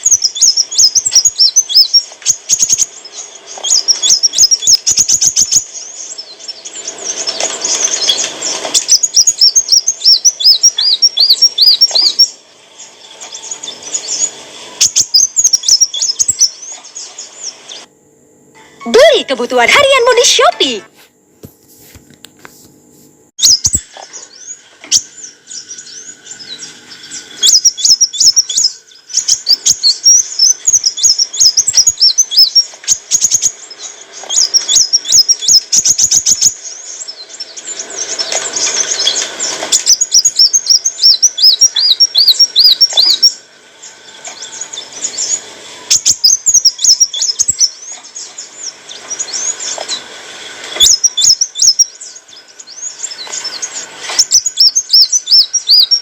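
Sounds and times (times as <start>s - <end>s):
sunbird singing rapid chirps: 0.0s - 17.9s, 23.4s - 56.0s.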